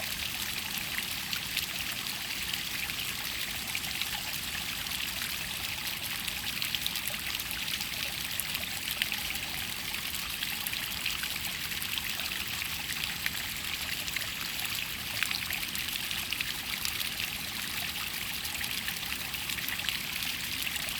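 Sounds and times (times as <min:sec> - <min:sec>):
water trickling over rock: 0:00.0 - 0:20.9.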